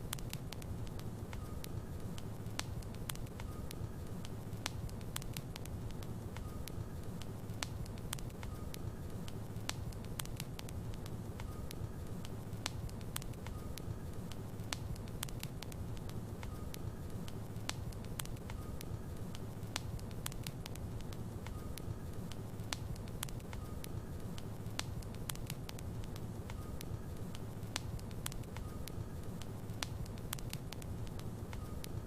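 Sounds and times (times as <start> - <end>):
logs burning in fireplace: 0.0 - 32.0.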